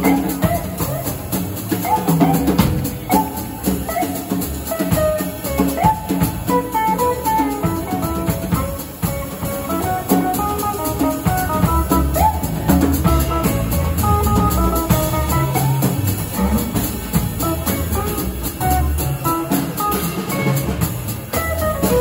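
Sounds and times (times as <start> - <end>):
double bass: 0.0 - 22.0
drum kit with cymbals: 0.0 - 22.0
electric guitar melody: 2.0 - 22.0.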